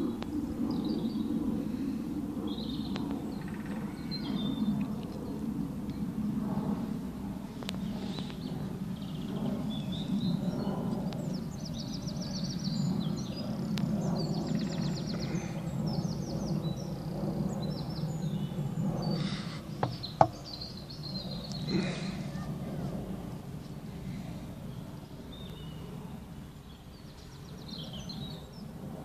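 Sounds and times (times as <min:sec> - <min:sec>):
low rumble of background noise: 0:00.0 - 0:29.0
songbirds trilling and chirping: 0:00.0 - 0:29.0.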